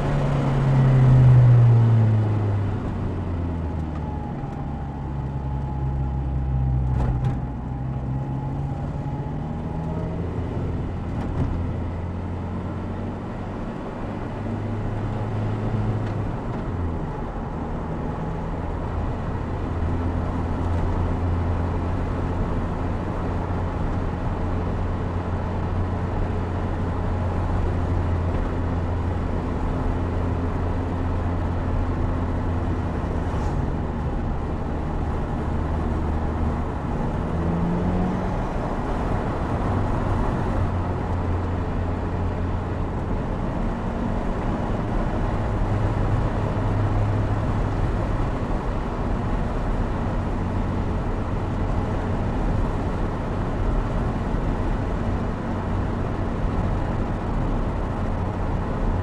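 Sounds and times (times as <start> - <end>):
wind and tyre noise: 0.0 - 59.0.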